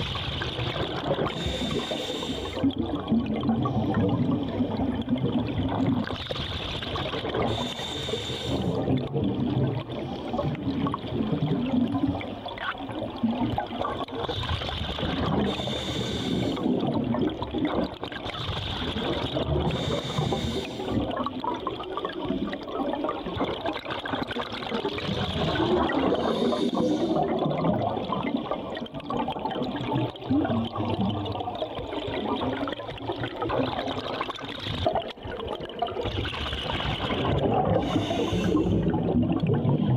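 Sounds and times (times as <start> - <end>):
hissing rush of bubbles: 0.0 - 39.9
underwater bubbling and gurgling: 0.0 - 39.9.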